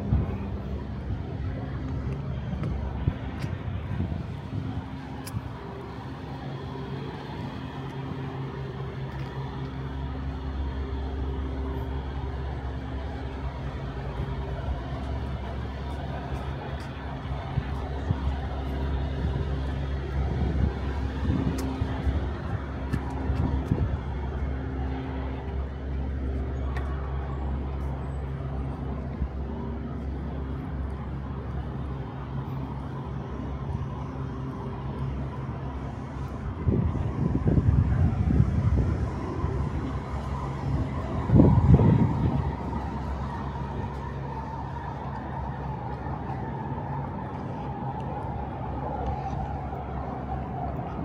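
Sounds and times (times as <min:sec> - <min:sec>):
engine hum: 0:00.0 - 0:51.0
traffic noise: 0:00.0 - 0:51.0.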